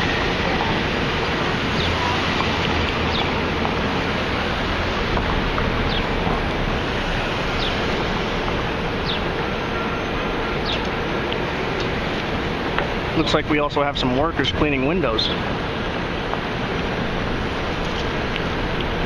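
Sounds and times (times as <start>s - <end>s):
city street traffic roar: 0.0s - 19.0s.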